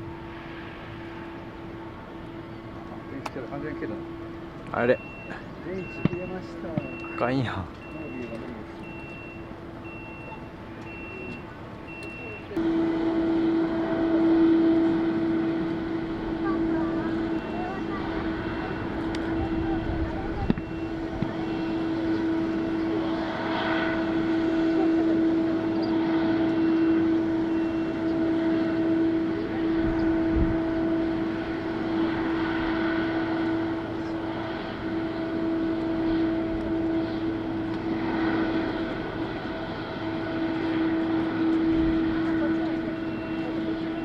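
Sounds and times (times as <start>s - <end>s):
jet engines droning: 0.0s - 44.0s.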